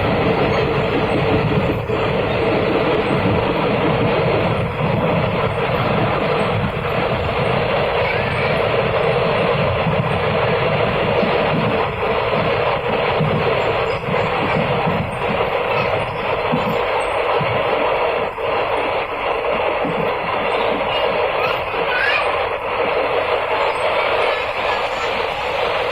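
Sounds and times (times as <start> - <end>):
train rushing and rumbling: 0.0 - 25.9.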